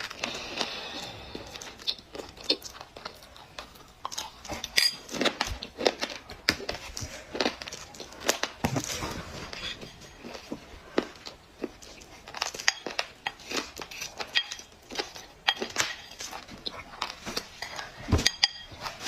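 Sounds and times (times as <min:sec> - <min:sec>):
clay being chewed with crunches: 0:00.0 - 0:18.0.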